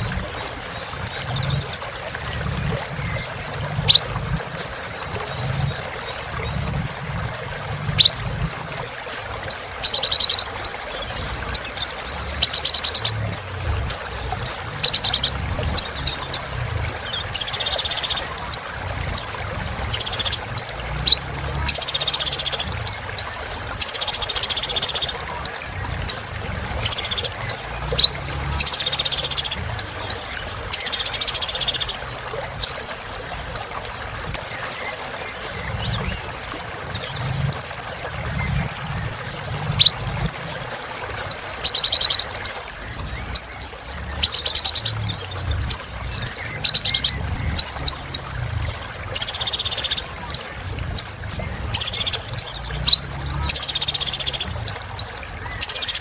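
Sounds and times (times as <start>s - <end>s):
sunbird singing chirps and trills: 0.0s - 56.0s.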